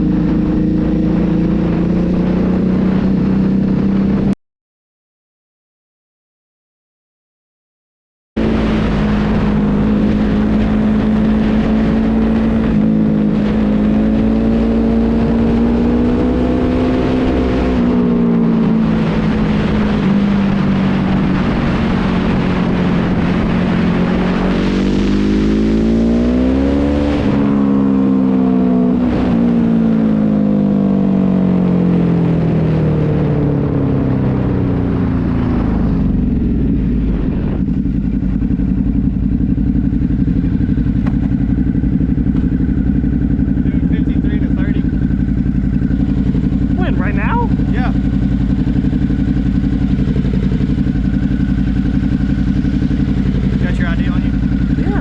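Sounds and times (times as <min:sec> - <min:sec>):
road and wind noise: 0:00.0 - 0:04.4, 0:08.4 - 0:55.0
vehicle engine revving: 0:00.0 - 0:04.4, 0:08.4 - 0:55.0.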